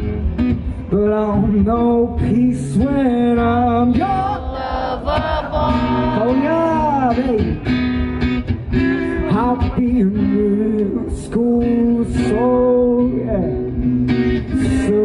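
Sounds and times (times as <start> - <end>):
acoustic guitar: 0.0 - 15.0
man singing pop melody: 0.6 - 7.8, 8.8 - 15.0.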